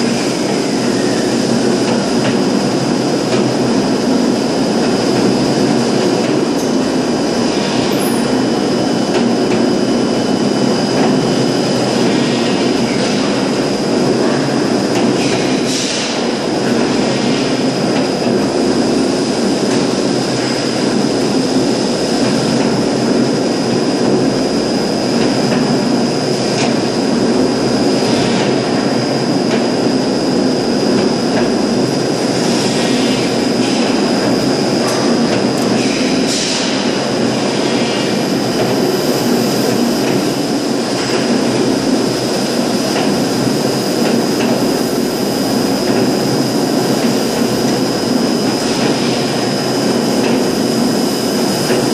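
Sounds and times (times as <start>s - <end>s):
constant high machine whine: 0.0s - 51.9s.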